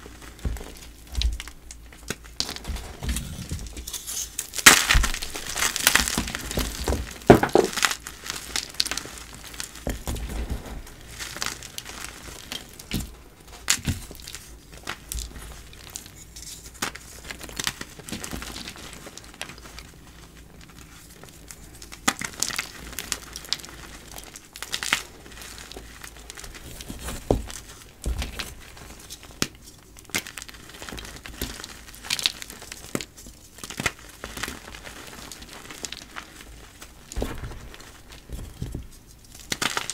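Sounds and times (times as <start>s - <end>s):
chalk crunching and snapping: 0.0s - 20.0s, 20.6s - 39.9s
powdery crumbling: 0.0s - 39.9s.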